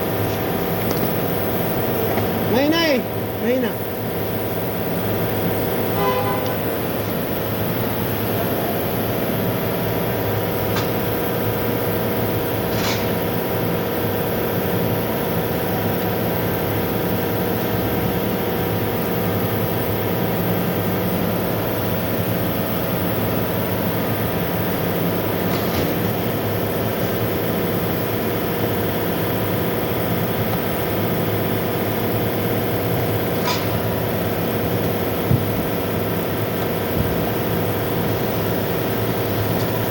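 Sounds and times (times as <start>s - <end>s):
radiator fan drone: 0.0s - 39.9s.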